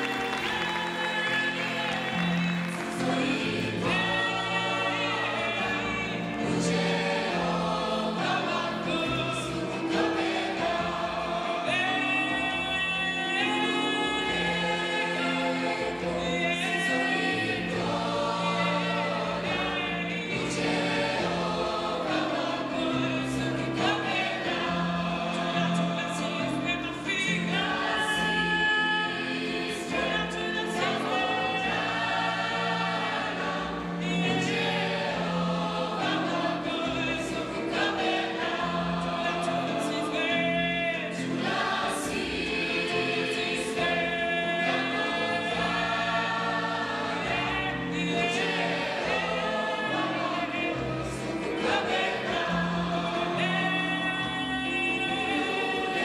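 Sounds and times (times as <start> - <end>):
youth choir singing: 0.0 - 56.0.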